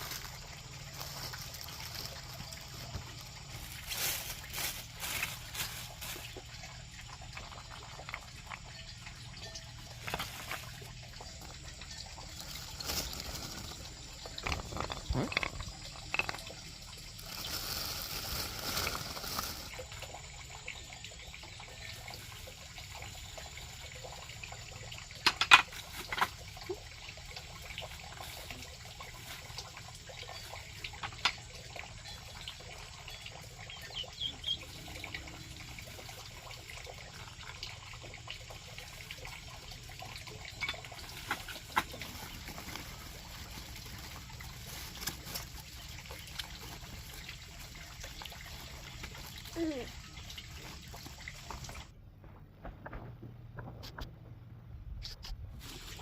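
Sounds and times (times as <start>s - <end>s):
water trickling and splashing: 0.0s - 54.3s, 55.0s - 56.0s.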